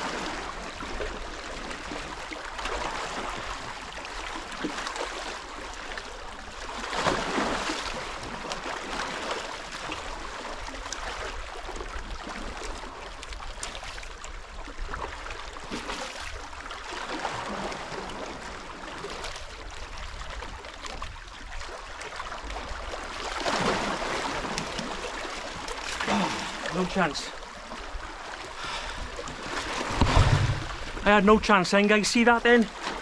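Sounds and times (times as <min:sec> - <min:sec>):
water rushing along shore: 0:00.0 - 0:33.0.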